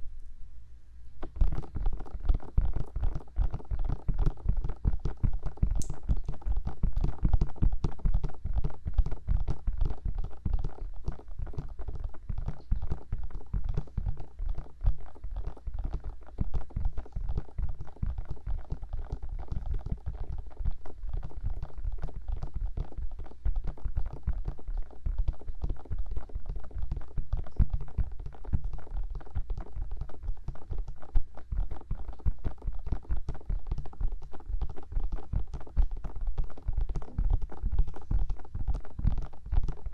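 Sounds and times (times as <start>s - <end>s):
fingers tapping on microphone: 1.2s - 39.9s.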